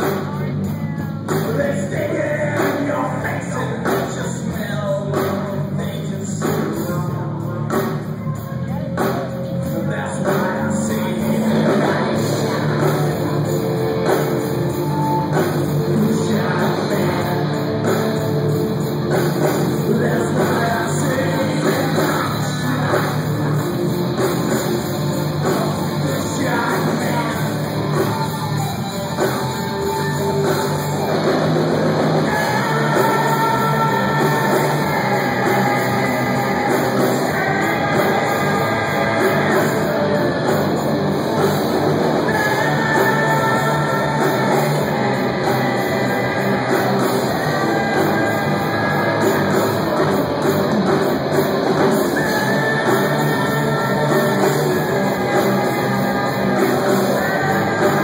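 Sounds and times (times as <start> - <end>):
man singing: 0.0 - 28.6, 32.2 - 41.5, 42.1 - 51.0, 51.6 - 58.0
drum kit: 0.0 - 58.0
electric guitars: 0.0 - 58.0.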